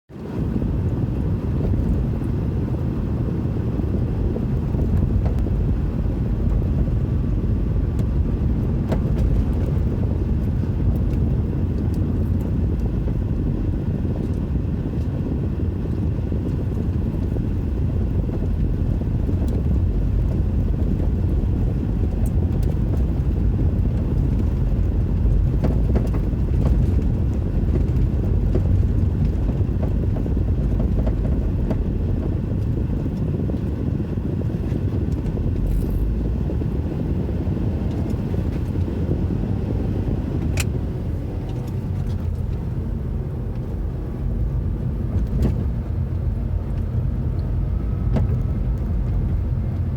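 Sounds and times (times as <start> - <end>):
low road noise rumble: 0.1 - 49.9
suspension clunks: 3.9 - 15.1, 16.4 - 33.8, 37.8 - 49.9.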